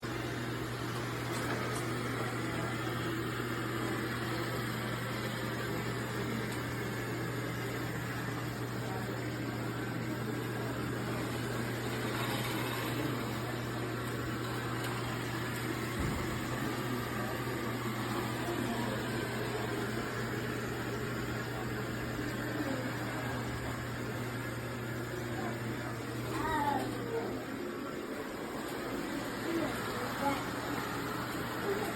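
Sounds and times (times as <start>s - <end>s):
robot vacuum motor humming: 0.1s - 31.9s.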